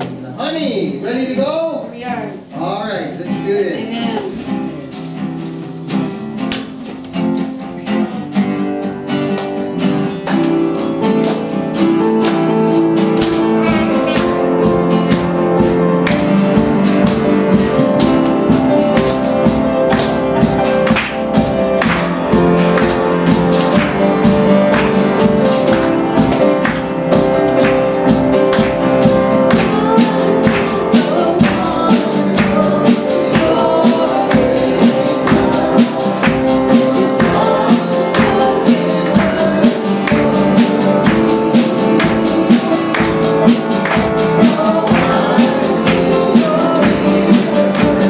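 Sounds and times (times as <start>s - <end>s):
live band playing: 0.0s - 48.0s
strummed guitar: 0.0s - 48.0s
bass guitar: 4.0s - 48.0s.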